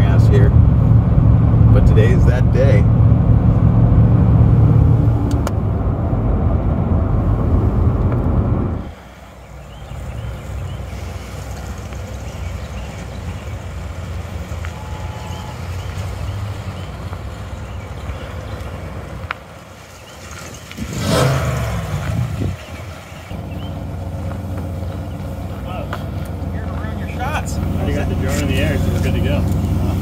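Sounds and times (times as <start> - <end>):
vehicle engine and tyres rumbling: 0.0 - 30.0.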